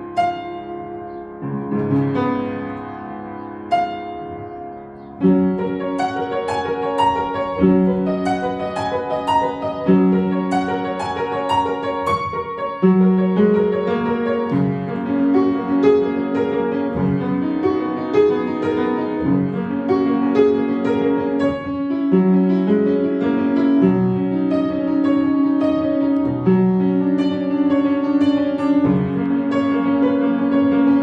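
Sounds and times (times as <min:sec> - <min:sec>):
solo piano classical piece: 0:00.0 - 0:31.0.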